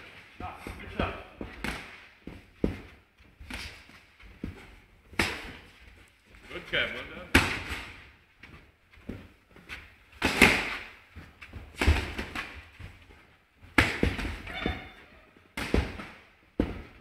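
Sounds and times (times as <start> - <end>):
boxing gloves thudding: 0.0 - 5.9, 7.3 - 8.2, 9.0 - 17.0.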